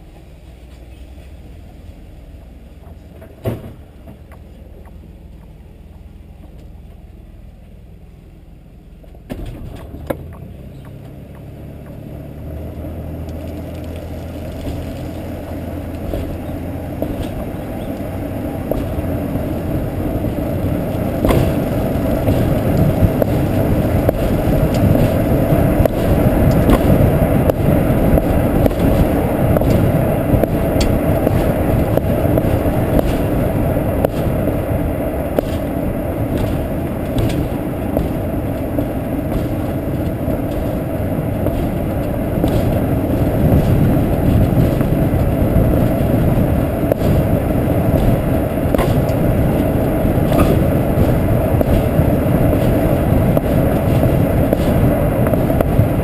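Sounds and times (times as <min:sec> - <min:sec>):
rolling trailer rumble: 0:00.0 - 0:56.0.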